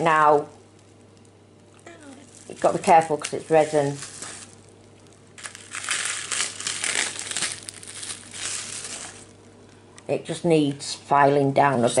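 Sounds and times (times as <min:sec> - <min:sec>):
bubble wrap crinkling: 0:00.1 - 0:09.8.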